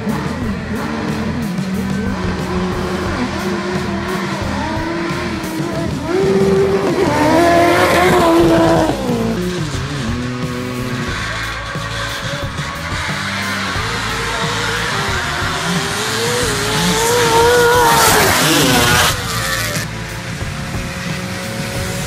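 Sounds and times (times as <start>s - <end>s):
dirt bike engines revving: 0.0s - 22.0s
dirt bike passing by: 0.0s - 22.0s.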